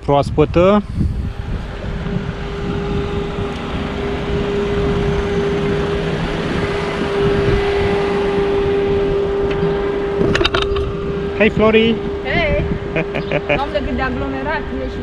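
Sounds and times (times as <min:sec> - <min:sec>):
street traffic noise: 0:00.0 - 0:15.0
steady single-pitch hum: 0:00.7 - 0:15.0.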